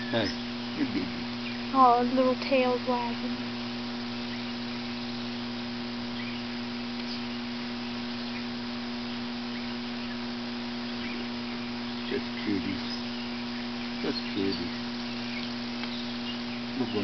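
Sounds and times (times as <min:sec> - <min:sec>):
electrical hum: 0:00.0 - 0:17.0
faint hiss: 0:03.3 - 0:17.0.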